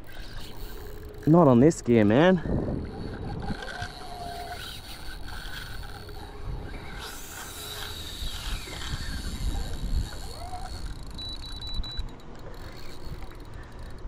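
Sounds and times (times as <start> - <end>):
fishing reel drag whine: 0.0 - 14.0.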